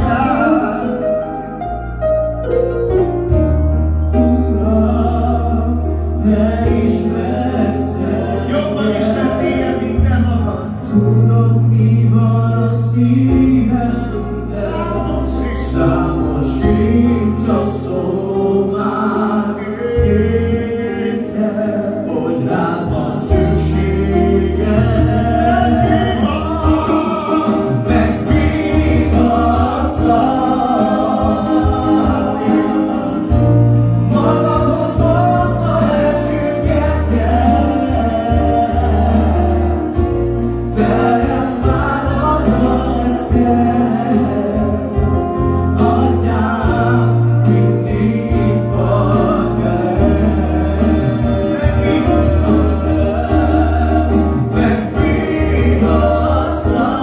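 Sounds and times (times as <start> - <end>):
man singing into microphone: 0.0 - 1.5, 4.2 - 57.0
electronic keyboard chords and bass: 0.0 - 57.0.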